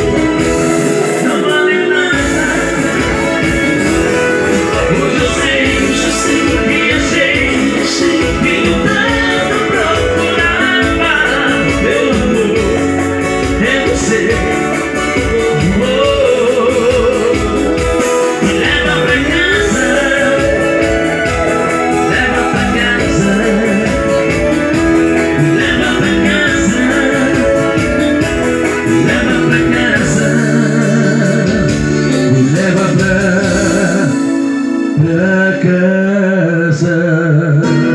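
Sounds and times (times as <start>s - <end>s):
electric guitar: 0.0s - 37.9s
man singing: 0.0s - 37.9s
organ-sound keyboard: 0.0s - 37.9s
drum beat: 2.2s - 33.9s.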